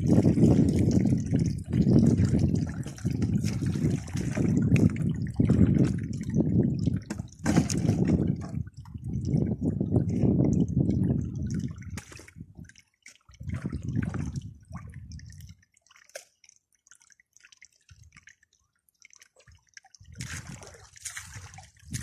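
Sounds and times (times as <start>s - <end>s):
water gushing through sluice: 0.0s - 16.3s, 19.3s - 22.0s.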